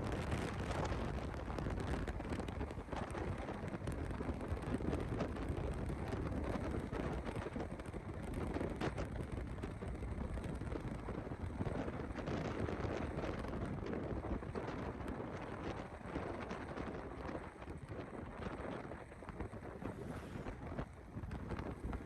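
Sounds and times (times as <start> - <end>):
scooter engine and road rumble: 0.0 - 22.0
wind buffeting microphone: 0.0 - 22.0.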